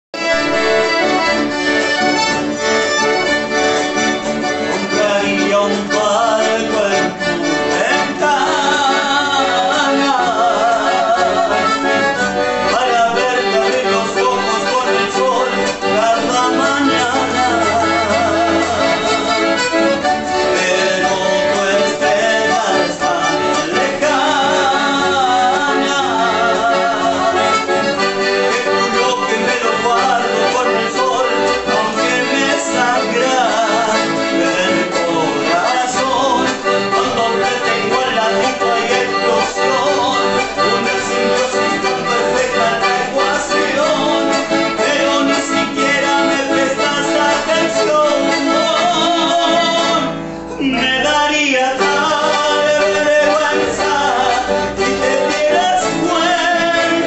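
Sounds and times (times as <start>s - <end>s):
piano accordion playing: 0.1s - 57.0s
acoustic guitar: 0.2s - 57.0s
man singing: 3.9s - 57.0s.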